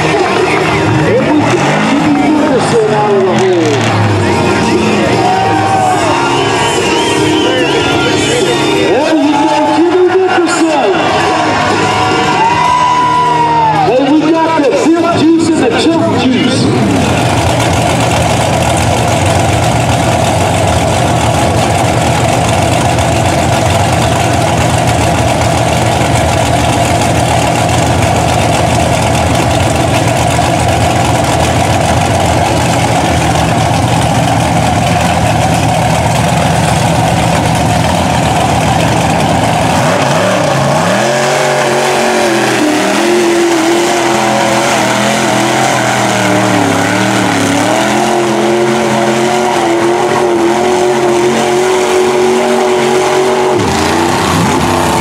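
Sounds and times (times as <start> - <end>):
truck engine revving: 0.0 - 55.0
truck engines idling: 0.0 - 55.0.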